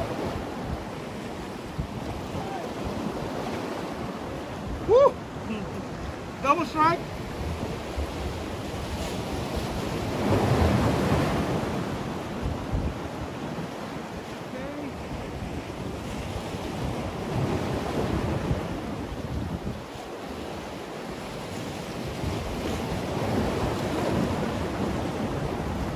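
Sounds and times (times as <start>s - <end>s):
sea waves against concrete blocks: 0.0s - 25.9s
wind buffeting microphone: 0.0s - 25.9s.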